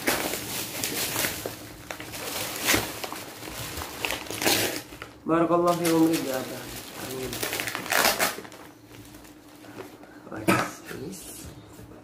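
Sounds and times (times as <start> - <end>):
wrapping paper rustling and tearing: 0.0 - 10.0.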